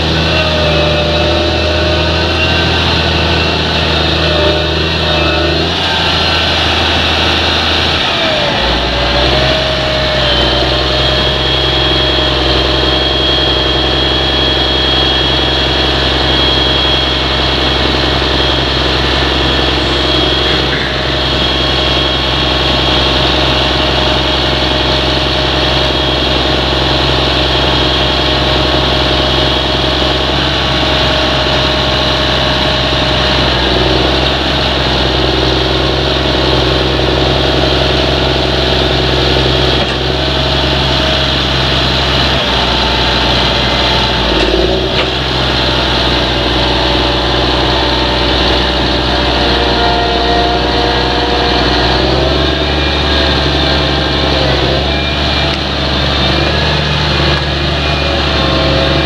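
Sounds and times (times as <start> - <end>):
steady high whine: 0.0 - 59.0
tractor diesel engine running: 0.0 - 59.0.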